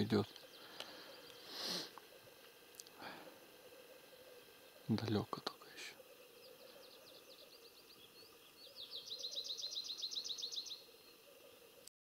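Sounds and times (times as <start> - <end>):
songbird singing: 0.0 - 11.9.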